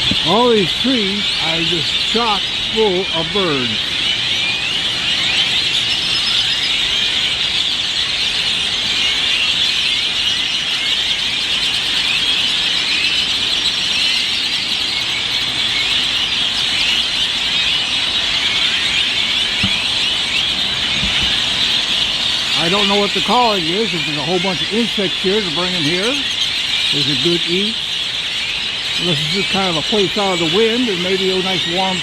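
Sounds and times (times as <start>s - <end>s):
flock of birds calling: 0.0s - 32.0s.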